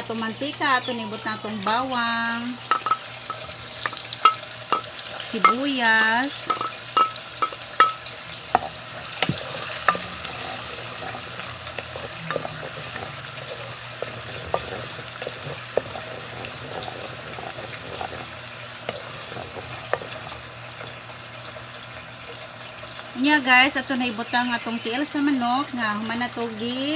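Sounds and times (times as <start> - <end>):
garlic and onion sizzling in oil: 0.6 - 26.9.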